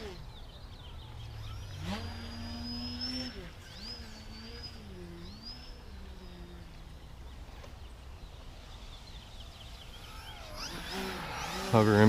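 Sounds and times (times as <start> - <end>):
rc airplane motor whining: 0.0 - 12.0.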